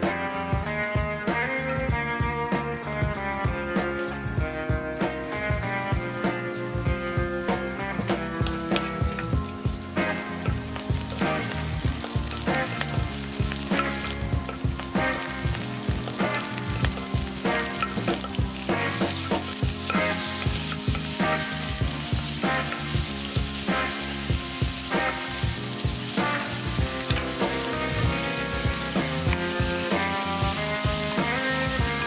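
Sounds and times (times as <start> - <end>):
food sizzling in hot oil: 4.7 - 32.0
spatula scraping a pan: 5.0 - 32.0.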